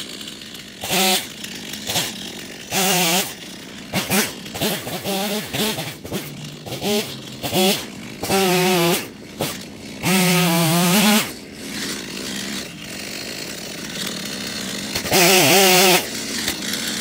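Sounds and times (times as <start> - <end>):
chainsaw revving and idling: 0.0 - 17.0.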